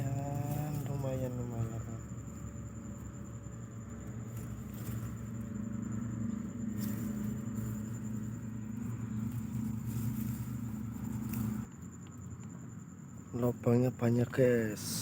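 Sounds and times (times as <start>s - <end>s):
insects whining: 0.0s - 15.0s.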